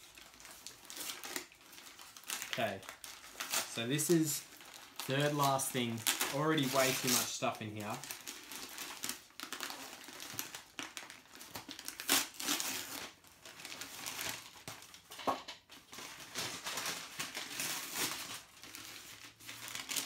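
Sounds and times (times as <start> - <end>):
packing paper crinkling: 0.0 - 15.1, 15.7 - 20.0.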